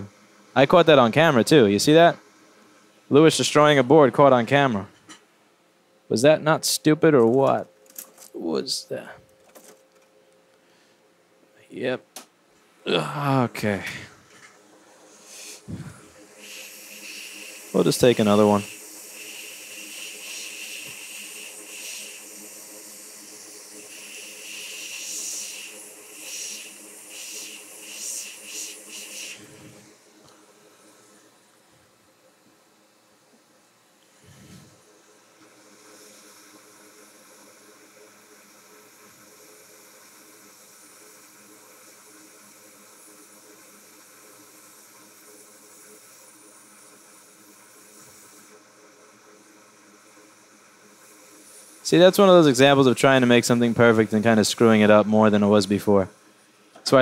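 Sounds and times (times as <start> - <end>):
faint hum: 0.0 - 57.0
steady hiss: 0.0 - 57.0.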